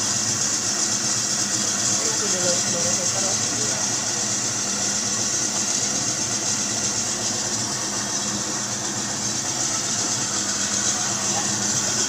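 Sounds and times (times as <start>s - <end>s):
meat slicer motor hum: 0.0s - 12.0s.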